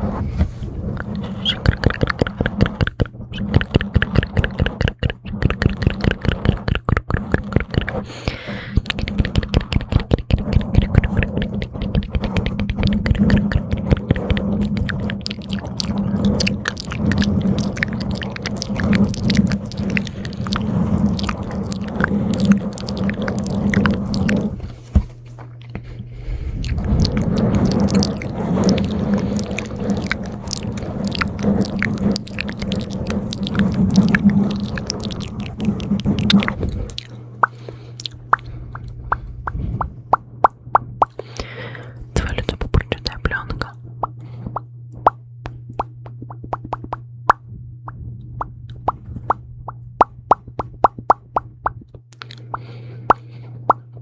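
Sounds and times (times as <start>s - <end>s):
steady low hum: 0.0s - 54.0s
wet mouth clicks and smacks: 0.8s - 24.6s, 26.6s - 40.0s, 41.0s - 45.2s, 50.0s - 53.8s.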